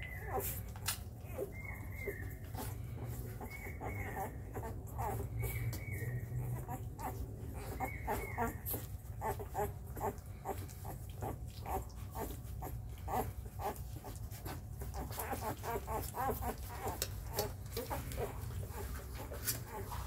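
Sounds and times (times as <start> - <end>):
puppies squeaking and grunting: 0.0 - 20.0.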